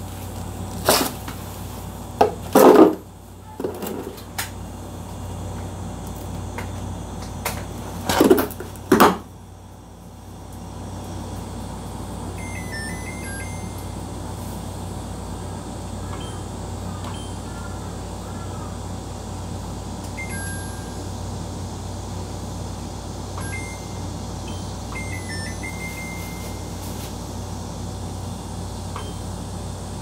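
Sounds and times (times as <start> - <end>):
fan hum: 0.0 - 30.0.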